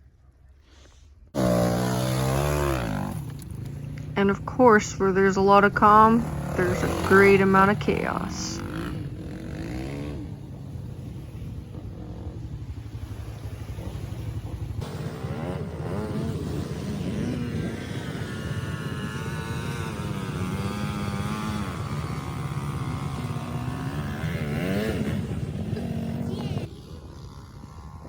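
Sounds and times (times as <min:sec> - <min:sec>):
quad bike engine revving: 0:01.4 - 0:28.0.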